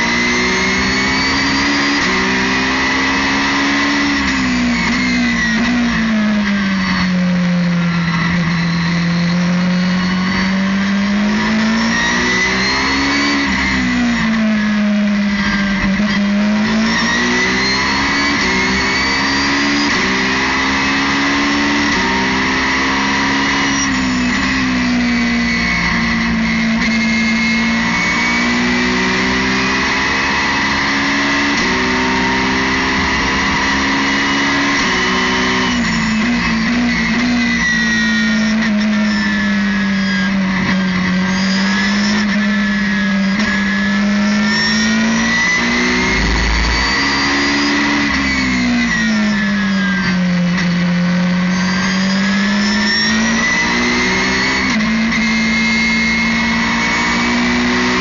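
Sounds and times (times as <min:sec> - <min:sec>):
racing engine revving through gears: 0:00.0 - 0:58.0.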